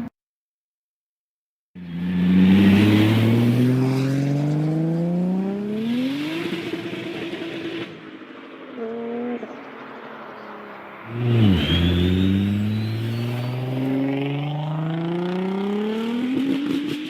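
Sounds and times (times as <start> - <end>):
car engine accelerating: 1.8 - 17.0.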